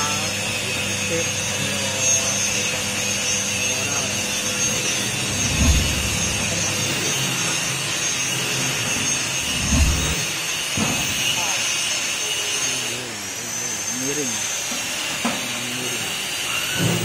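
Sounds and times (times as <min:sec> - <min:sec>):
slicing machine whining: 0:00.0 - 0:17.0.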